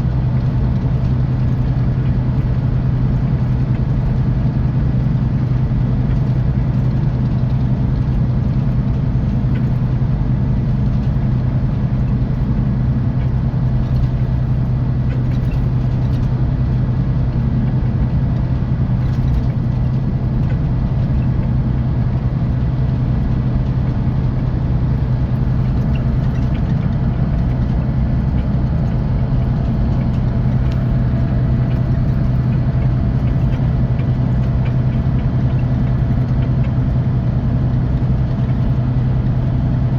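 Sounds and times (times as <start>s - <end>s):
diesel bus engine hum: 0.0s - 39.9s.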